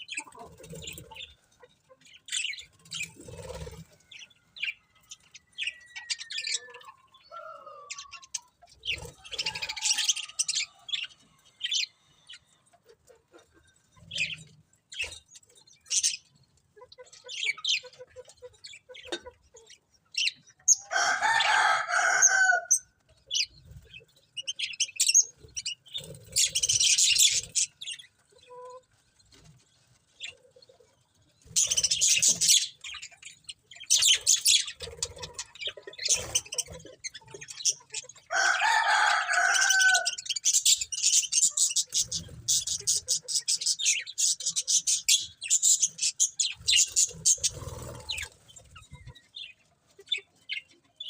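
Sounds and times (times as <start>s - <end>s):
budgerigars chirping and chattering: 0.0s - 51.0s.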